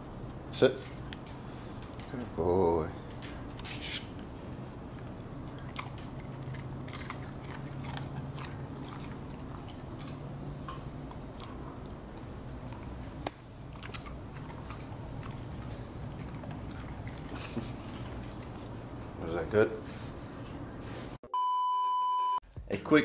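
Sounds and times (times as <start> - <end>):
dogs chewing treats: 0.2 - 20.0.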